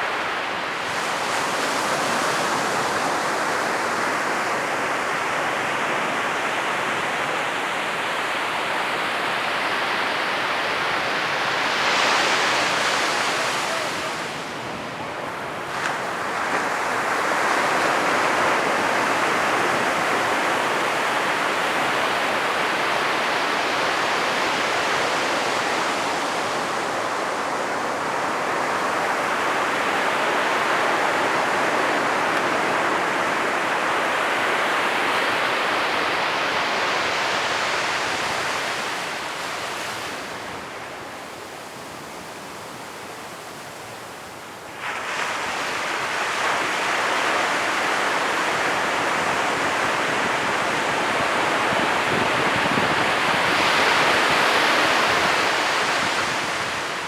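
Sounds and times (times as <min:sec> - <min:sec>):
ocean surf breaking: 0:00.0 - 0:42.8, 0:44.0 - 0:57.0.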